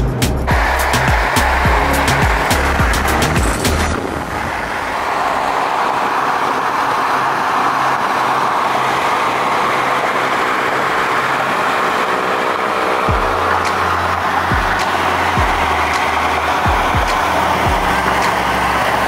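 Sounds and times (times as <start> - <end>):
car road noise: 0.0 - 19.0
wind rushing: 0.4 - 19.0.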